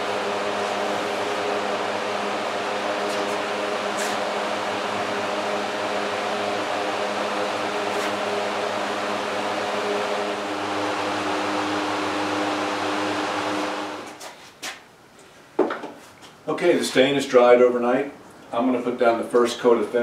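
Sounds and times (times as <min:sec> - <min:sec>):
electric fans running: 0:00.0 - 0:20.0.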